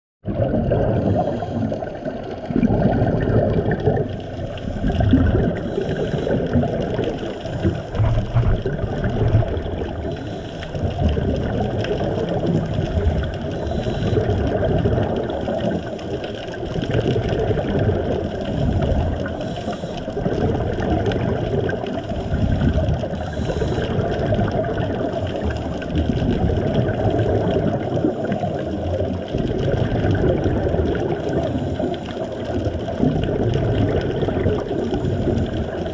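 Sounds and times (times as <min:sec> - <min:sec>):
underwater rushing water: 0:00.2 - 0:35.9.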